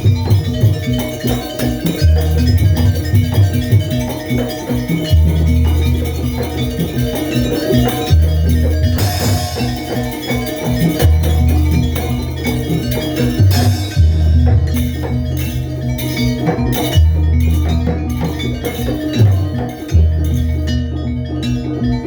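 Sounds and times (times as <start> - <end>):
gamelan metal percussion: 0.0 - 22.0
triangle jingling: 0.0 - 22.0.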